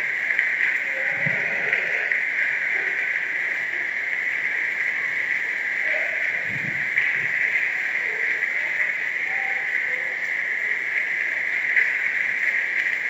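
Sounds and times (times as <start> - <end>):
hail and rain on grass: 0.0 - 13.0.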